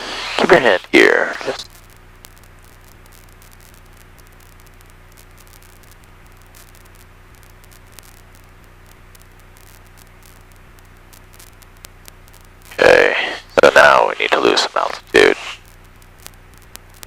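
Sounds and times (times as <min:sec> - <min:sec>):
steady cockpit hiss: 0:00.0 - 0:17.0.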